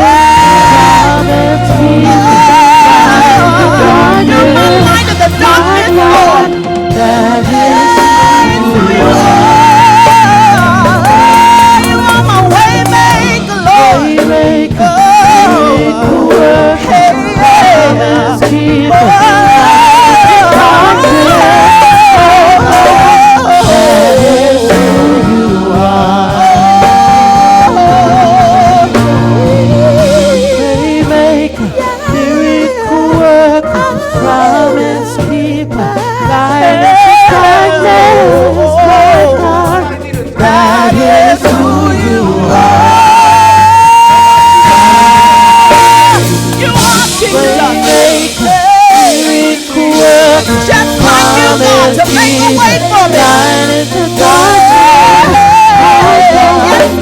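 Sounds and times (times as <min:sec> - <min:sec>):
bass and drums: 0:00.0 - 0:57.0
person singing with vibrato: 0:00.0 - 0:57.0.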